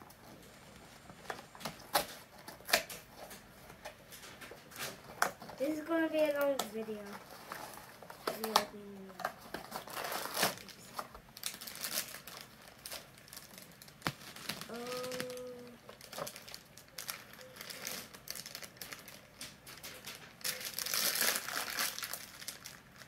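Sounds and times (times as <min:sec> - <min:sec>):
foil bag crinkling and tearing: 0:04.1 - 0:23.0.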